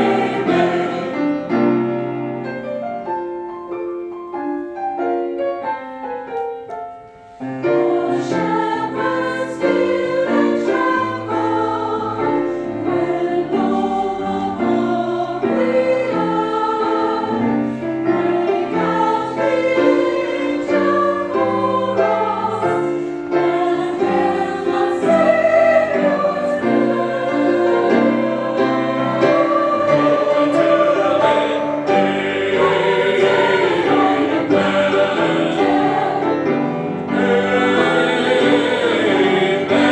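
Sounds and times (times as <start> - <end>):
choir singing in parts: 0.0 - 2.4, 7.6 - 39.9
piano passage: 0.0 - 39.9.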